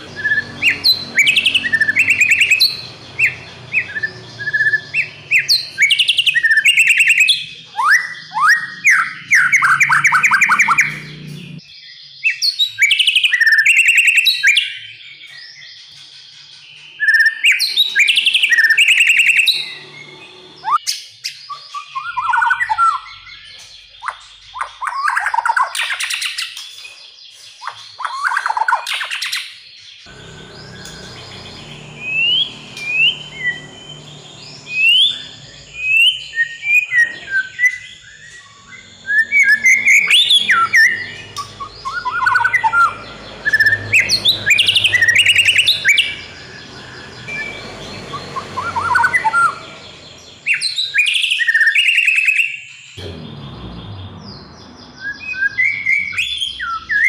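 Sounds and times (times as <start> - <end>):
bird singing varied phrases: 0.0 - 53.0, 53.8 - 57.0.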